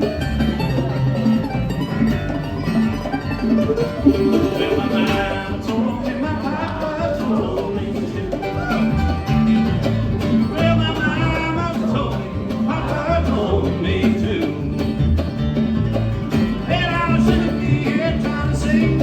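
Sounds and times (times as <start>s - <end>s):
bluegrass string band playing: 0.0s - 19.0s.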